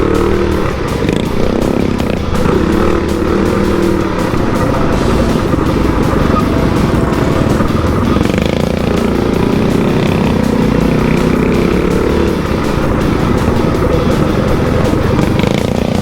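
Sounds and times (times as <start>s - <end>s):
motorcycle engines running: 0.0s - 16.0s
music playing: 0.0s - 16.0s.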